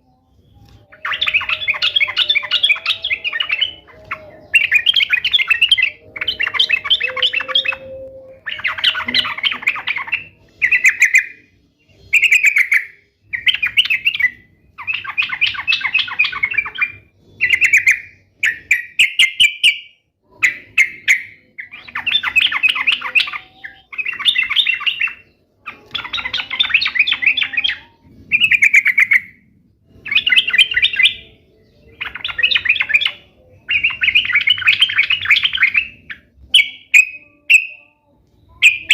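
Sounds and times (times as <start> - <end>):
bird singing chattering phrases: 0.6 - 38.9.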